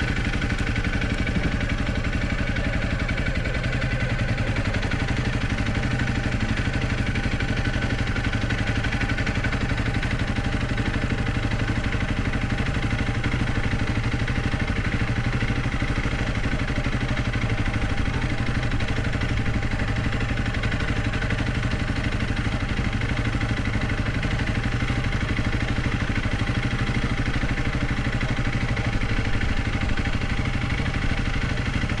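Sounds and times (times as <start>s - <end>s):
motorcycle engine running at low revs: 0.0s - 32.0s.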